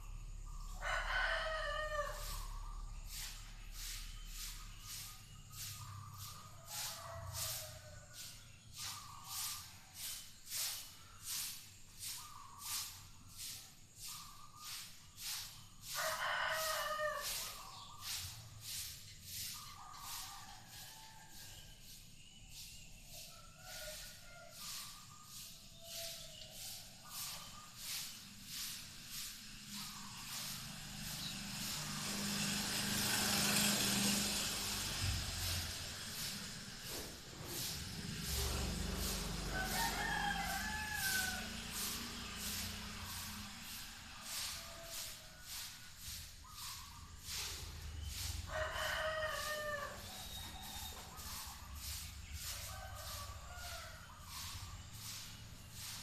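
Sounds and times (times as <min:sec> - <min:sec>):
pulsing hiss: 0:00.0 - 0:56.0
vehicle passing by: 0:00.0 - 0:56.0.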